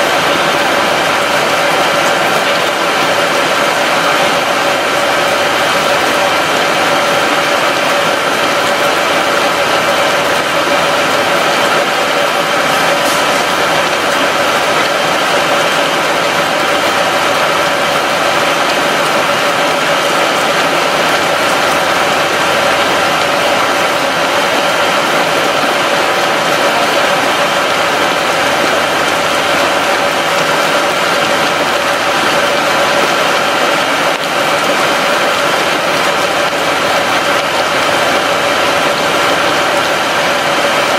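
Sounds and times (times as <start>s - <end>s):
steady machine hum: 0.0s - 40.9s
water boiling hard: 0.0s - 40.9s.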